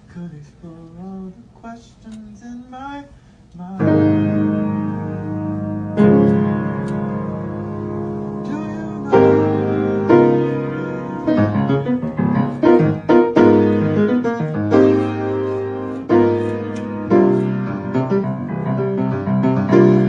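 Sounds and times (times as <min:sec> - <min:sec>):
piano chords and melody: 0:03.8 - 0:20.0.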